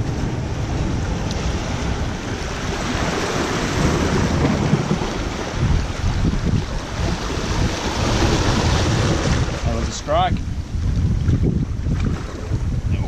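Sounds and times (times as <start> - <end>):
waves washing over rocks: 0.0 - 13.0
wind buffeting microphone: 0.0 - 13.0.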